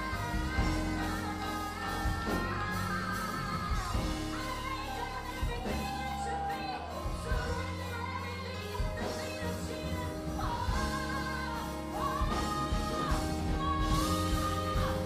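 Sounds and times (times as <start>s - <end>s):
band with bass and drums: 0.0s - 15.0s
person singing: 0.0s - 15.0s.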